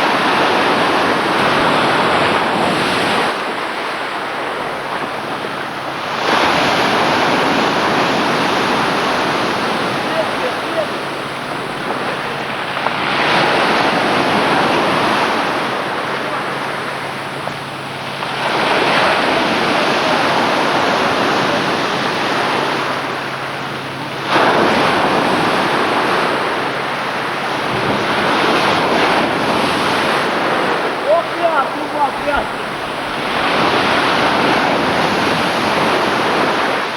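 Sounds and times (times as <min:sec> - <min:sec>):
sea waves breaking: 0:00.0 - 0:36.9
wind buffeting microphone: 0:00.0 - 0:36.9.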